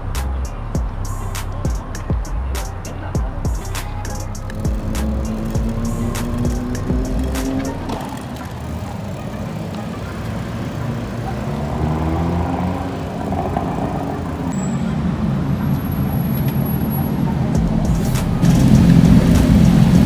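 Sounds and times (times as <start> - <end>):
cars passing rumble: 0.0 - 20.0.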